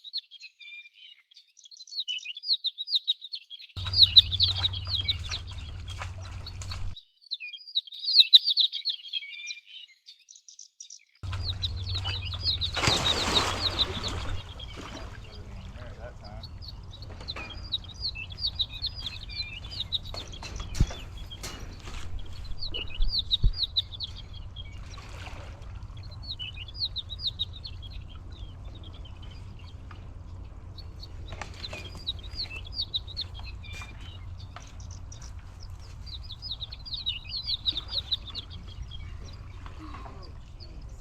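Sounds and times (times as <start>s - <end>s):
small birds chirping: 0.0s - 41.0s
steady low rumble: 3.8s - 7.0s, 11.2s - 41.0s.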